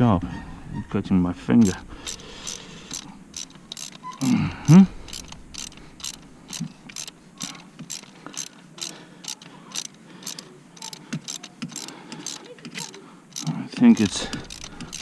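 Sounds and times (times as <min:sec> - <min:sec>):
socket ratchet clicking: 0:01.6 - 0:04.3, 0:05.0 - 0:15.0.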